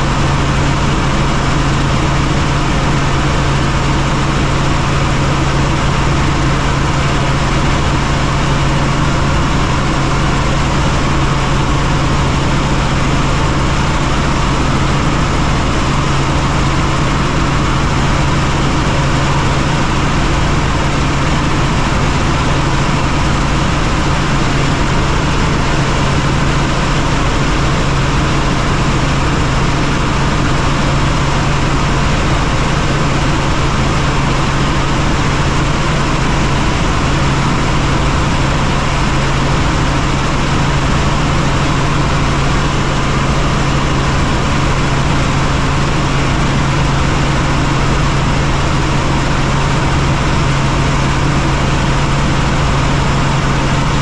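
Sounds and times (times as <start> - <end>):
helicopter rotors and engine: 0.0 - 54.0.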